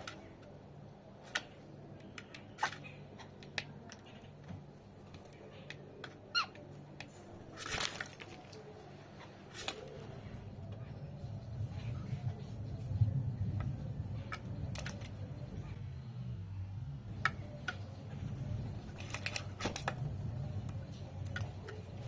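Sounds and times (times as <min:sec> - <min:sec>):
faint low hum: 0:00.0 - 0:22.0
birds chirping and clicking: 0:01.2 - 0:11.8, 0:13.4 - 0:16.0, 0:17.1 - 0:22.0.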